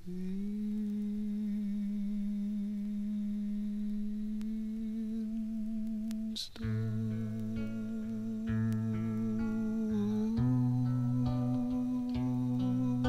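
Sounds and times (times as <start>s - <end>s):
man singing a long note: 0.0s - 13.0s.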